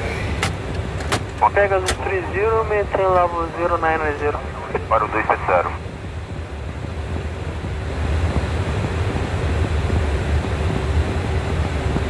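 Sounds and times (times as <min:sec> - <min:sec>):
cockpit airflow and engine rumble: 0:00.0 - 0:12.0
faint steady hum: 0:01.0 - 0:12.0.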